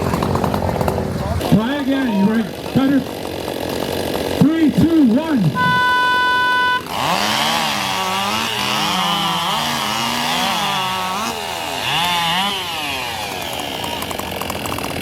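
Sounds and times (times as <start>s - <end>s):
chainsaw cutting log: 0.0s - 15.0s.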